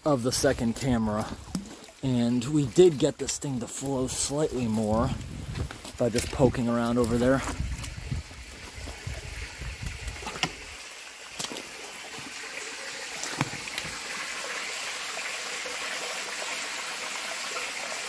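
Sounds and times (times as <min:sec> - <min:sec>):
water trickling through metal culvert: 0:00.0 - 0:18.0.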